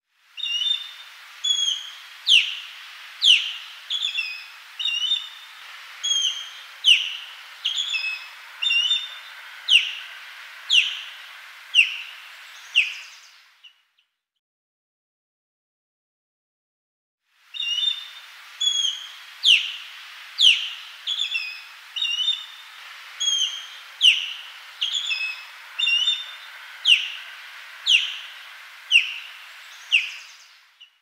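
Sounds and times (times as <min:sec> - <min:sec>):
osprey whistled calls: 0:00.4 - 0:13.8, 0:17.5 - 0:31.0.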